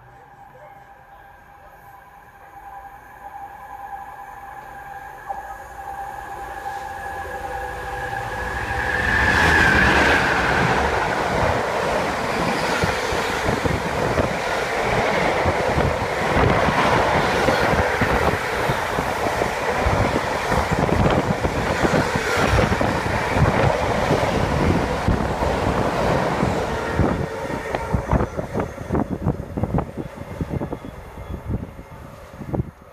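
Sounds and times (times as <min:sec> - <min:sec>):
locomotive whine: 0:00.0 - 0:32.9.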